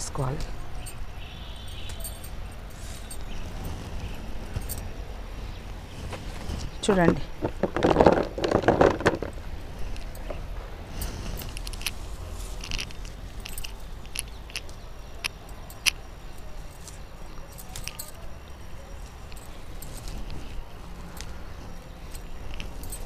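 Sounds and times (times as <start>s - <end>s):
leaves rustling: 0.0s - 23.0s.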